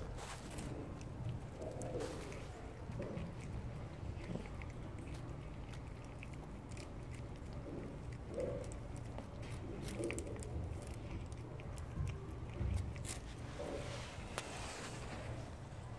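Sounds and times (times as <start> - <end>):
cat chewing food: 0.0 - 15.9
cat low throaty noises: 0.0 - 15.9.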